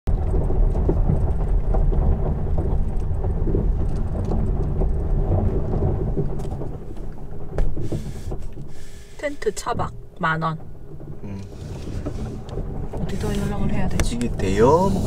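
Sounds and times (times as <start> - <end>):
tyres rolling over gravel: 0.1 - 15.0.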